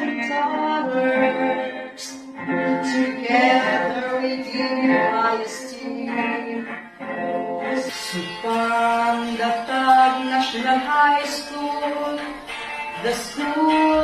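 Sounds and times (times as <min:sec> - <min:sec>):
woman singing a hymn: 0:00.0 - 0:06.7, 0:07.8 - 0:12.4, 0:13.0 - 0:14.0
musical accompaniment: 0:00.0 - 0:14.0.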